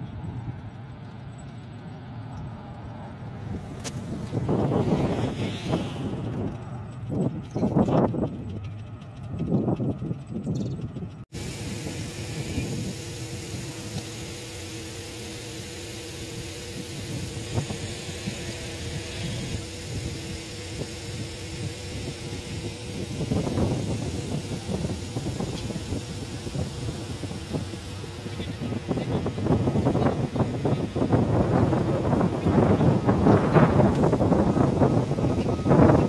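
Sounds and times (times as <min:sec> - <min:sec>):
engine hum: 0:00.0 - 0:36.0.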